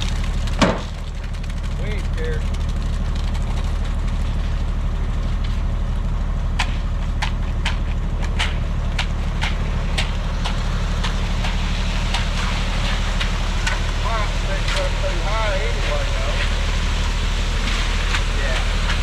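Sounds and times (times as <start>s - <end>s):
heavy vehicle engine droning: 0.0s - 19.0s.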